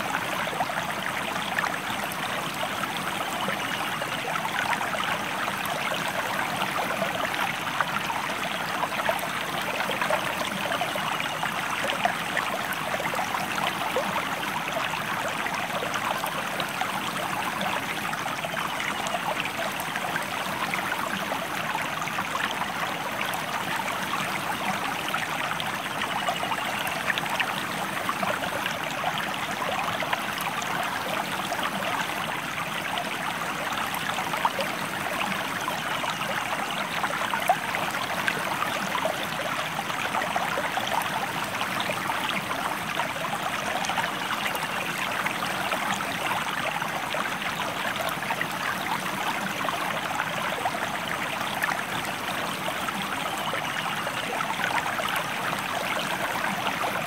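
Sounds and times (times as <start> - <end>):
water babbling over rocks: 0.0 - 57.0.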